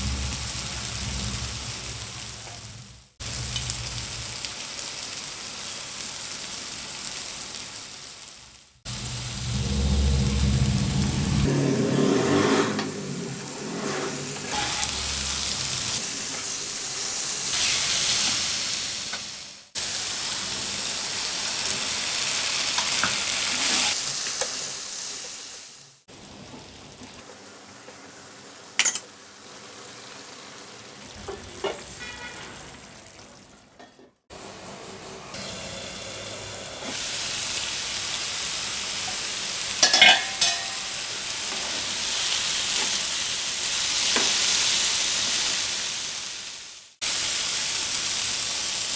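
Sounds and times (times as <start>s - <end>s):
egg sizzling in a pan: 0.0s - 8.7s, 12.6s - 33.8s, 35.3s - 48.9s.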